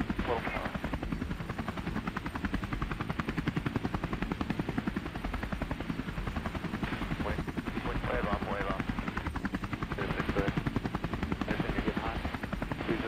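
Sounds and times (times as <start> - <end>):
helicopter rotor thumping: 0.0 - 13.0.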